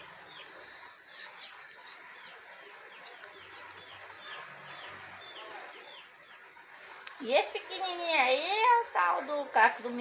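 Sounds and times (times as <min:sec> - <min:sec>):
small songbird singing: 0:00.0 - 0:10.0.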